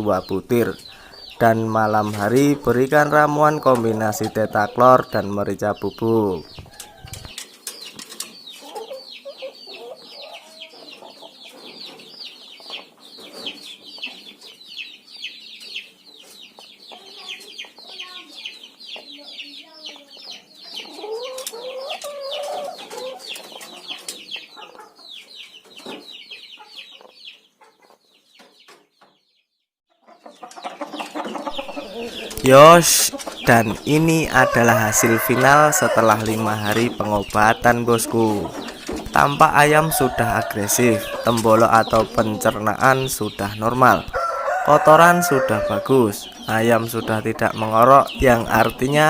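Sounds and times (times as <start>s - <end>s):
chicken clucking: 0.0s - 29.2s, 29.9s - 49.0s.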